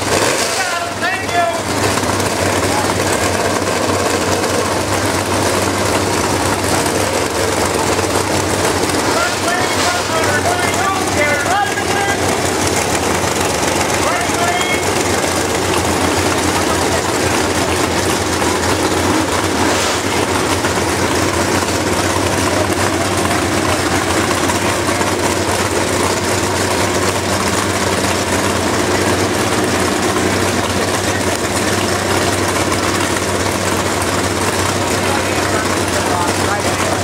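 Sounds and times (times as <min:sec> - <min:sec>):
vehicle engines idling: 0:00.0 - 0:37.0.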